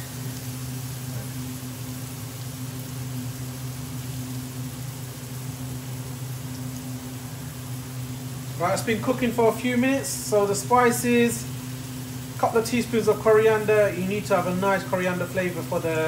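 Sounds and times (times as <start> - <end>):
faint hiss: 0.0 - 16.0
kitchen machinery humming: 0.0 - 16.0.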